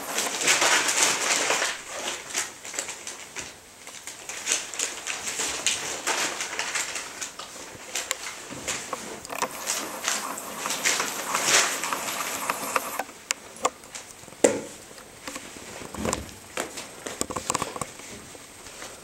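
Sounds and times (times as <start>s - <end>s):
puppies rustling and scrabbling: 0.0s - 19.0s.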